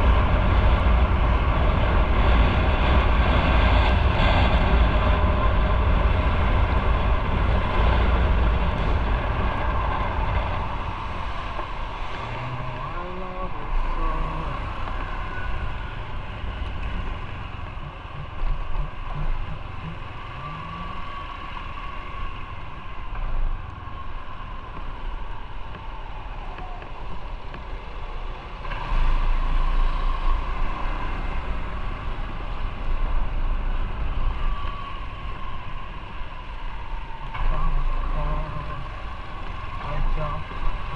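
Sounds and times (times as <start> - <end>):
wind and road noise: 0.0 - 40.9.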